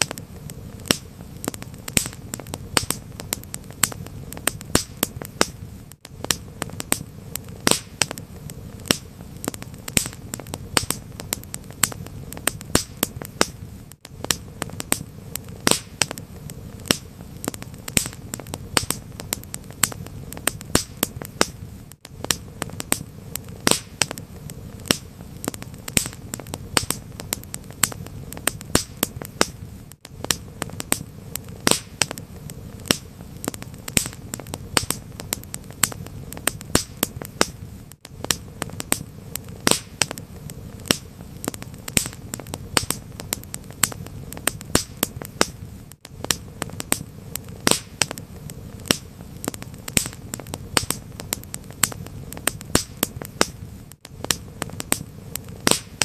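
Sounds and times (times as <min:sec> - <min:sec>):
fire low rumble: 0:00.0 - 0:56.0
wood fire pops and snaps: 0:00.0 - 0:56.0.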